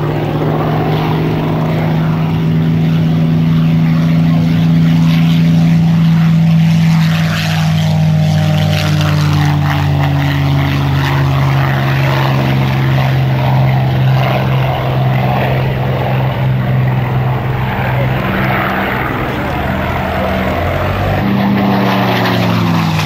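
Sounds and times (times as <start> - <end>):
propeller aircraft engine drone: 0.0 - 23.0.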